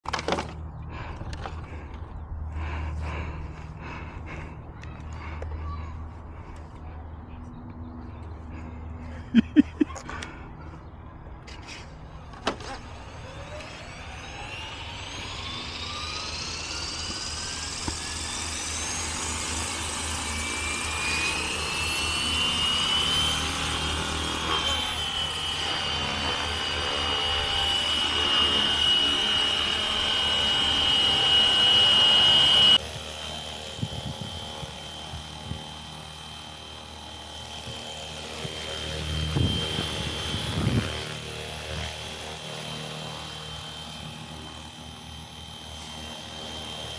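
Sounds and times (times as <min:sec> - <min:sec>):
rc helicopter motor whine: 0:00.1 - 0:46.9.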